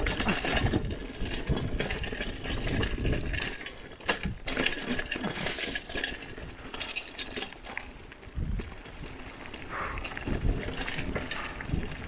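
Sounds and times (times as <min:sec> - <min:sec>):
bike metallic rattles: 0:00.0 - 0:12.0
tyres rumbling on dirt: 0:00.0 - 0:12.0.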